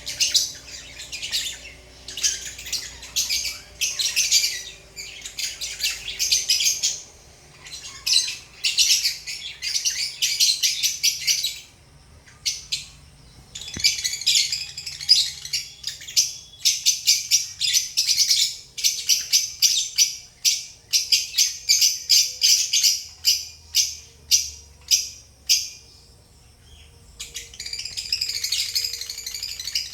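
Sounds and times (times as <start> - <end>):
lovebirds chirping: 0.0 - 29.9.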